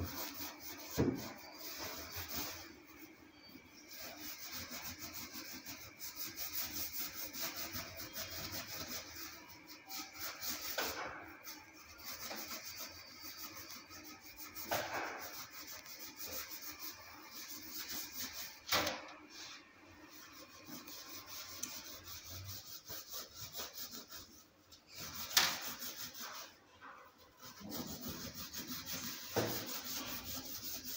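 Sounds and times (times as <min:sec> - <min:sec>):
rubbing strokes inside oven: 0:00.0 - 0:30.9.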